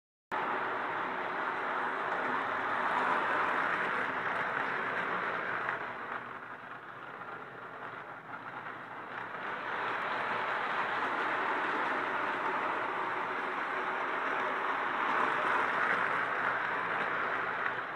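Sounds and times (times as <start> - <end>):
toy train rattling on track: 0.4 - 17.9.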